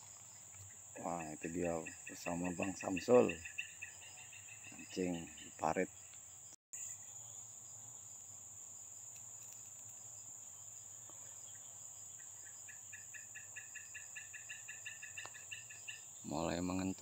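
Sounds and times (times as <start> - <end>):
high-pitched insect chorus: 0.0 - 17.0
rapidly pulsing insect call: 0.0 - 17.0.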